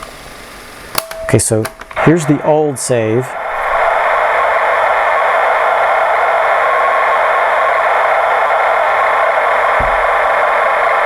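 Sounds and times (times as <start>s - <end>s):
cassette data tones: 1.0s - 11.0s.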